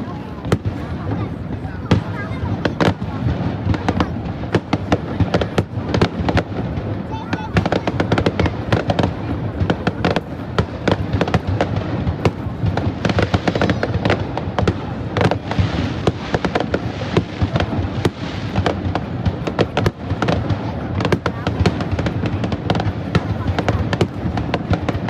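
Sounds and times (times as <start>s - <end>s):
fireworks cracking and banging: 0.0s - 25.0s.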